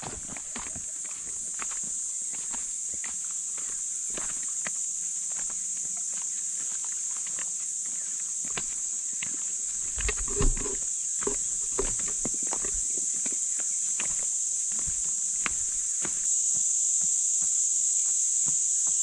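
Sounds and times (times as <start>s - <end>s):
footsteps on dirt and rock: 0.0s - 17.7s
high-pitched hiss: 0.0s - 19.0s.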